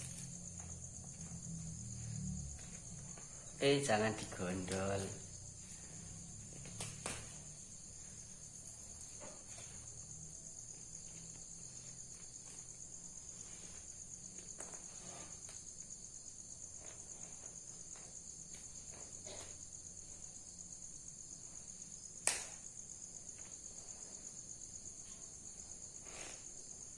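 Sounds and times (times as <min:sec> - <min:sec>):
crickets chirping: 0:00.0 - 0:26.9.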